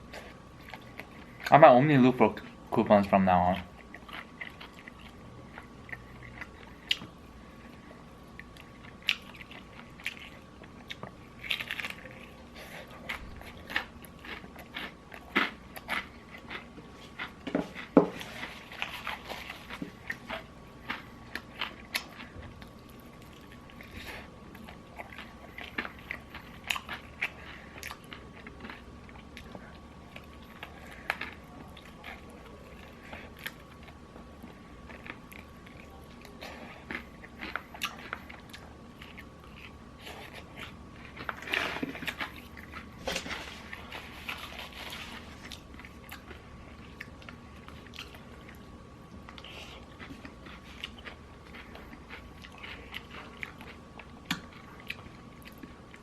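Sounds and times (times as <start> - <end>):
crunchy chewing: 3.5 - 56.0.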